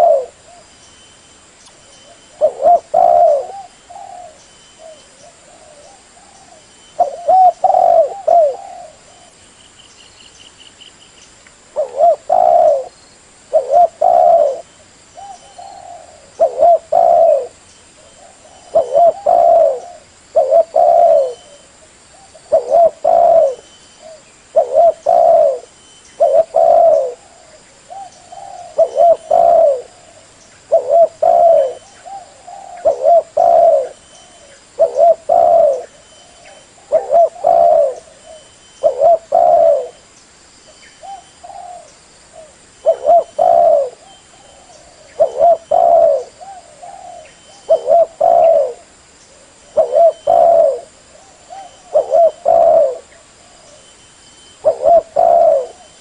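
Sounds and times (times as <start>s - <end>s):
dove cooing: 0.0s - 0.7s, 2.0s - 9.4s, 11.8s - 40.0s, 41.0s - 54.0s, 54.6s - 56.0s.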